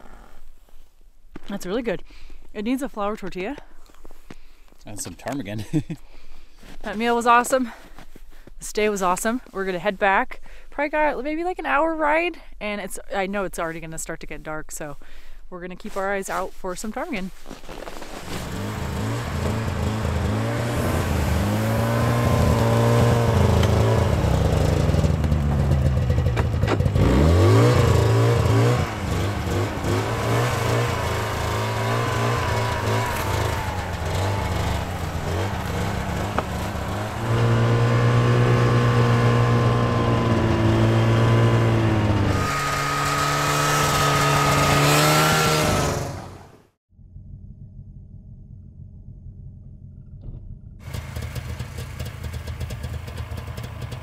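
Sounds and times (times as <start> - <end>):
snowmobile engine under load: 1.5 - 12.2, 13.1 - 54.0.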